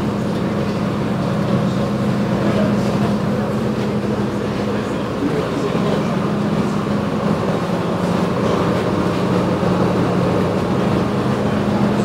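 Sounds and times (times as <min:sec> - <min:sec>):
ferry diesel engines droning: 0:00.0 - 0:12.0.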